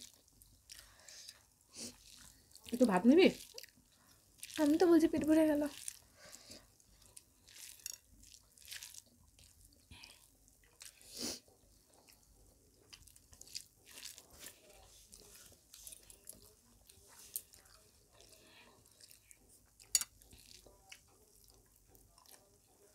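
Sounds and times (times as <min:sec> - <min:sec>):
chewing food: 0:00.0 - 0:22.9
fingers mixing rice on a plate: 0:00.0 - 0:22.9.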